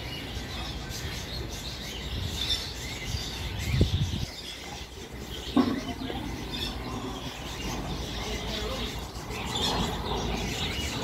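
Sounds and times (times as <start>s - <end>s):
open-air background noise: 0.0s - 11.0s
small birds chirping: 0.0s - 11.0s.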